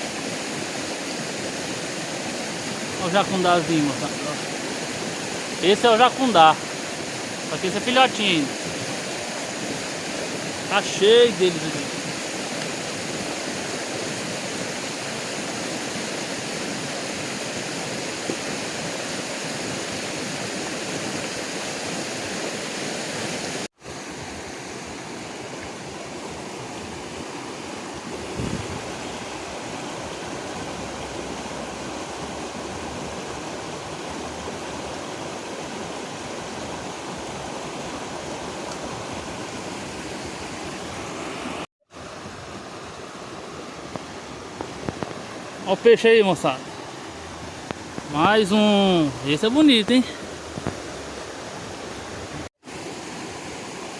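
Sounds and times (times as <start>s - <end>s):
water rushing over rocks: 0.0s - 53.9s.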